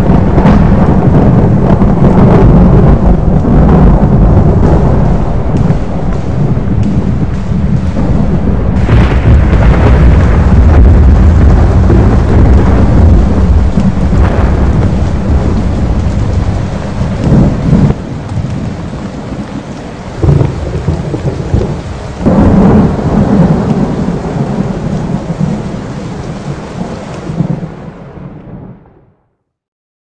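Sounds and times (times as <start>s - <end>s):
rolling thunder: 0.0s - 29.0s
rain: 0.0s - 29.3s.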